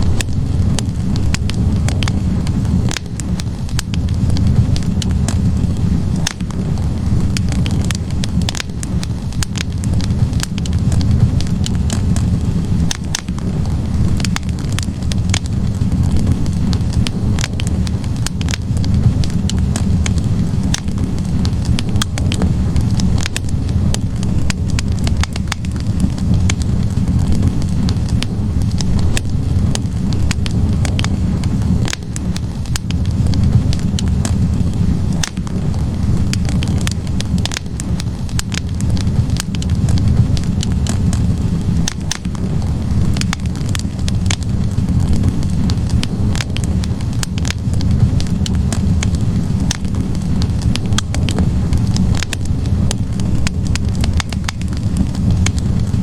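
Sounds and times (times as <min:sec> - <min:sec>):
flames rushing in fireplace: 0:00.0 - 0:56.0
wood crackling and popping: 0:00.0 - 0:56.0.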